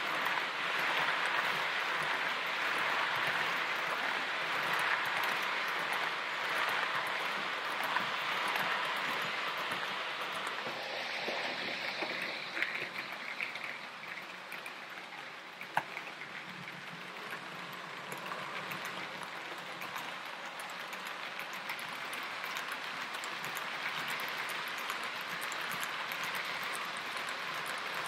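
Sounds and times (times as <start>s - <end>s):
light clicks at rail joints: 0.0s - 28.0s
model train wheels rattling on rails: 0.0s - 28.0s.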